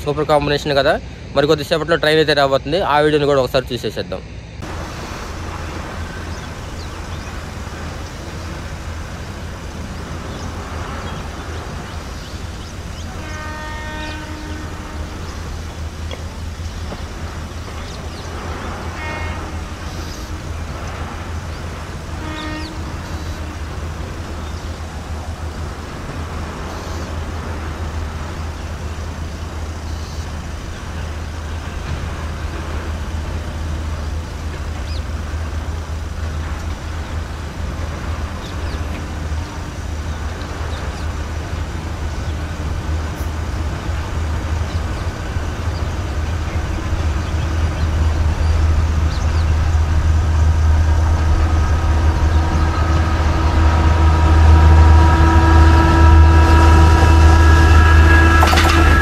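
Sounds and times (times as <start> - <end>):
train rumble: 0.0 - 59.0
distant locomotive horn: 4.6 - 35.6, 36.2 - 59.0.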